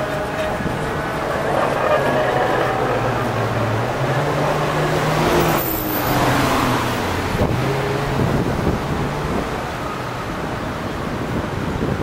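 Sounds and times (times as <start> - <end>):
passing vehicle engines humming: 0.0 - 12.0
road noise: 0.0 - 12.0.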